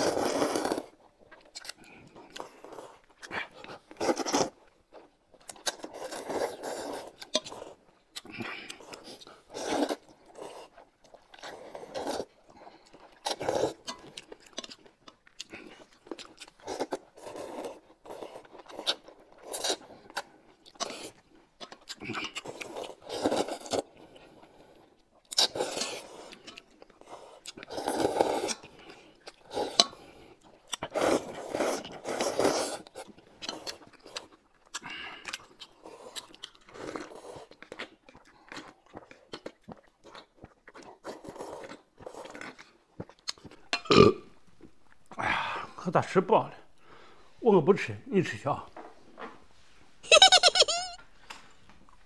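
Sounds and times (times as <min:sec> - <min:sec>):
slurping noodles: 0:00.0 - 0:44.4
chewing: 0:00.0 - 0:45.2.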